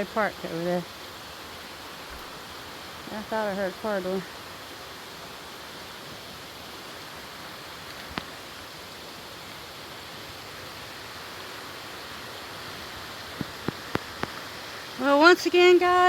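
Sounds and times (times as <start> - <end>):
creek rushing: 0.0 - 16.0.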